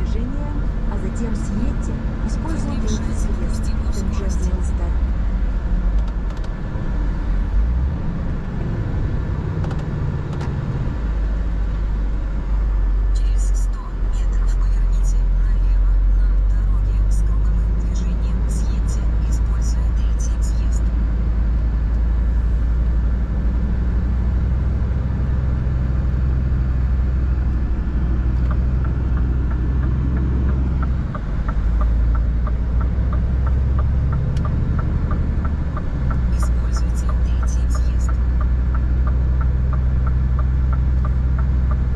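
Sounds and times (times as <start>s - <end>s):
turn signal ticking: 0.0s - 5.2s, 13.2s - 41.9s
truck diesel engine running: 0.0s - 10.1s, 10.9s - 41.9s
road noise: 0.0s - 41.9s.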